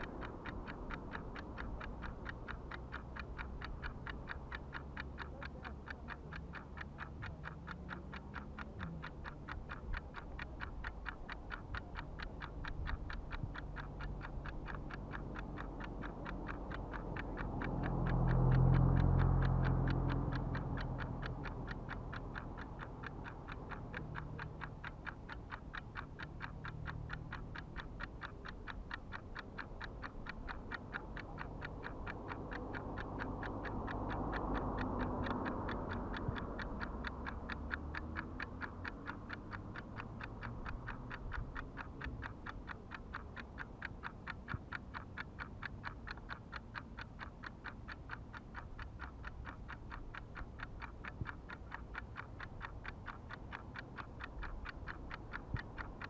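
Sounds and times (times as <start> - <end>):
rapid mechanical ticking: 0.0 - 56.0.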